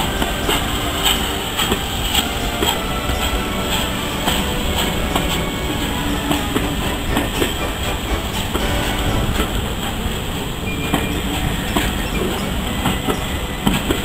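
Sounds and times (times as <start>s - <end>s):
steel wheels rumbling on rail: 0.0s - 14.0s
wheels clicking over rail joints: 0.0s - 14.0s.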